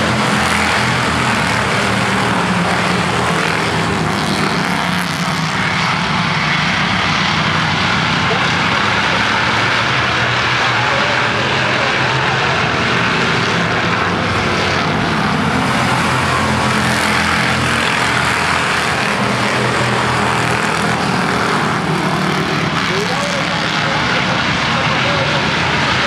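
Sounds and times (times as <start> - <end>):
race car engines roaring: 0.0 - 26.0.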